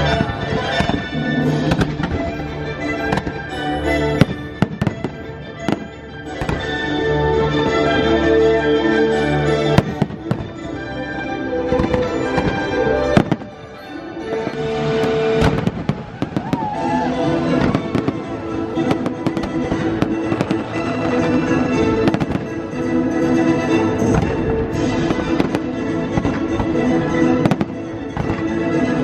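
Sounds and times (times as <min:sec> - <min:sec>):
fireworks bangs and crackles: 0:00.0 - 0:06.9, 0:09.6 - 0:11.0, 0:11.6 - 0:29.0
music over loudspeakers: 0:00.0 - 0:29.0.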